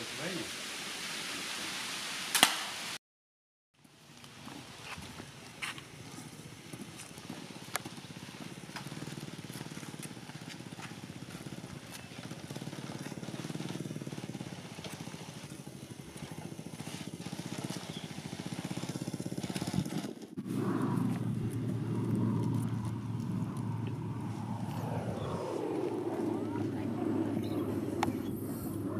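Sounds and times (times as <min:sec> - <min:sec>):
small engine running: 0:04.5 - 0:28.9.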